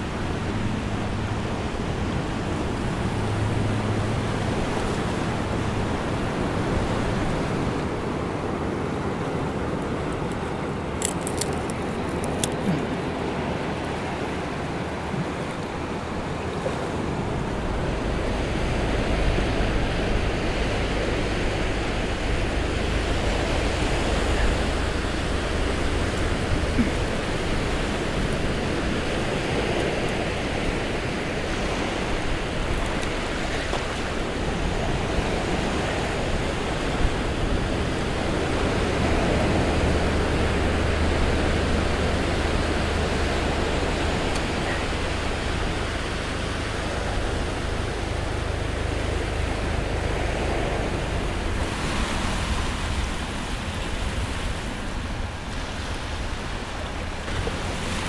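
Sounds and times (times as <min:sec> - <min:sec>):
ocean surf on rocks: 0:00.0 - 0:58.0.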